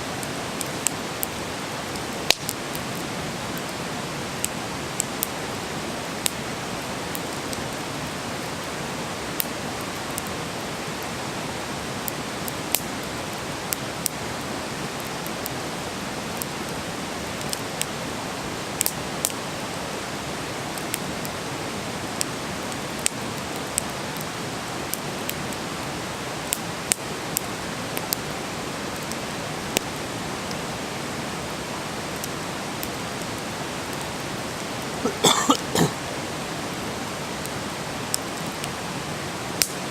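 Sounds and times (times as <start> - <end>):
campfire hissing: 0.0 - 39.9
fire crackles and pops: 0.1 - 39.9.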